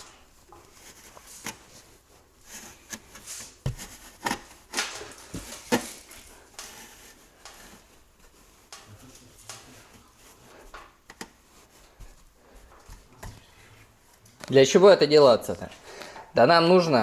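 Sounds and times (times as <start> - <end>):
knocks and scrapes on sheet panels: 0.0 - 14.2.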